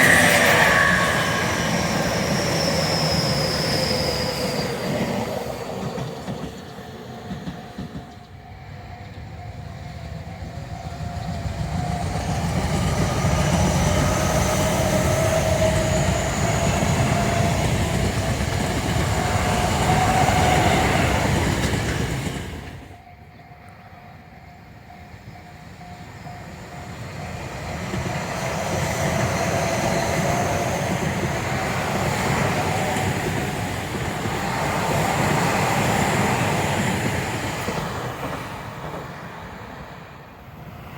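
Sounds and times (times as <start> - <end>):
electric trains passing: 0.0 - 40.9.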